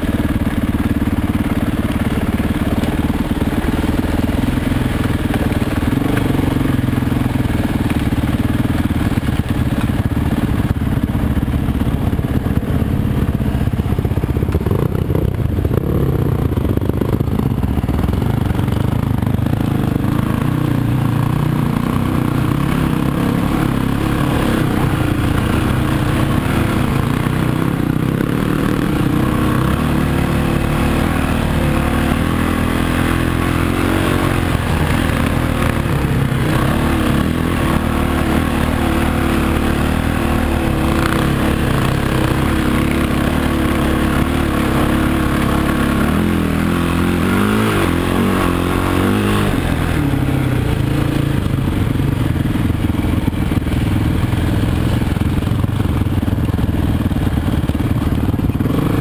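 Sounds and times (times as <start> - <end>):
motorcycle rattling and clatter: 0.0 - 59.0
off-road motorcycle engine: 0.0 - 59.0.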